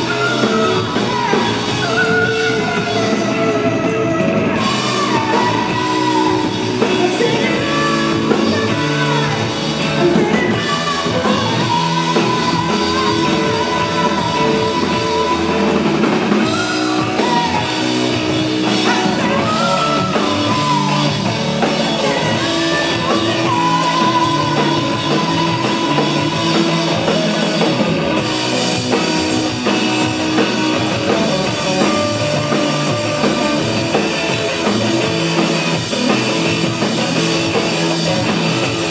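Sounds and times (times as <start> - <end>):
person singing: 0.0 - 35.0
rock band playing live: 0.0 - 38.9.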